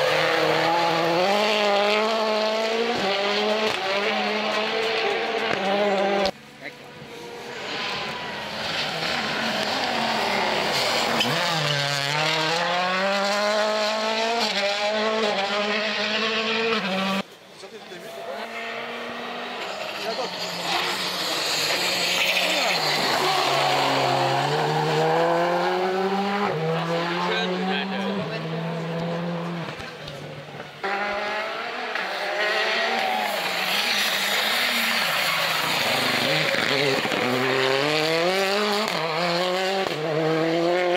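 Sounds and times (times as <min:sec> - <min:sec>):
rally car engine at high revs: 0:00.0 - 0:17.3, 0:17.9 - 0:40.9.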